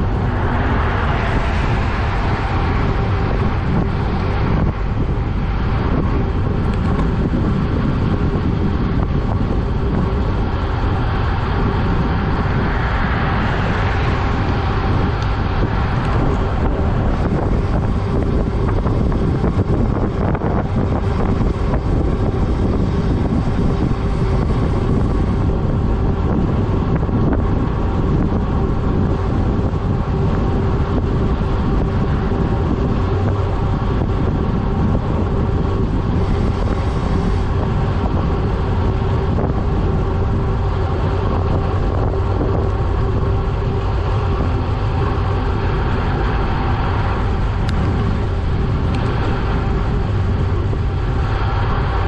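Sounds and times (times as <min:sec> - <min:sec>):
car passing: 0:00.0 - 0:52.0
road noise: 0:00.0 - 0:52.0
wind rushing over microphone: 0:00.0 - 0:52.0.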